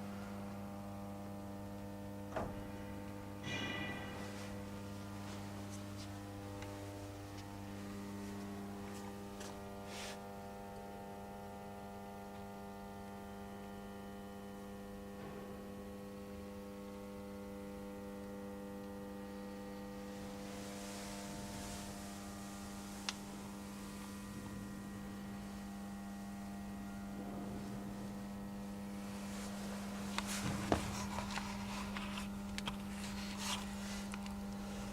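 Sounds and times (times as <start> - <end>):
electrical mains hum: 0.0 - 34.9.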